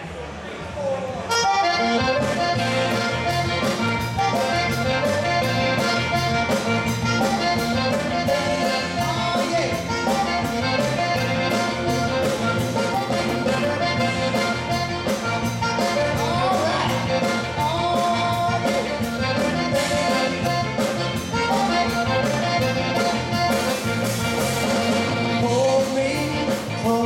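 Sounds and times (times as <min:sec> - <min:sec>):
accordion: 0:01.3 - 0:27.0
bass guitar: 0:01.3 - 0:27.0
electric guitar: 0:01.3 - 0:27.0
drum kit beat: 0:02.0 - 0:27.0.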